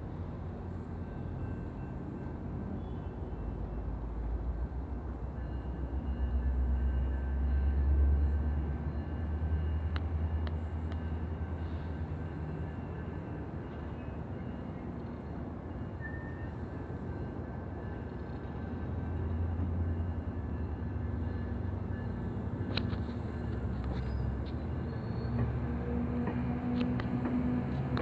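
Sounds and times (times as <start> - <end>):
diesel locomotive engine rumbling: 0.0 - 28.0.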